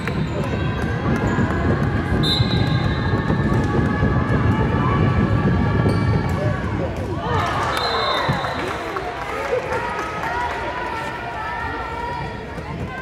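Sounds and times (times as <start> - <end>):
crowd din of many voices: 0.0 - 13.0.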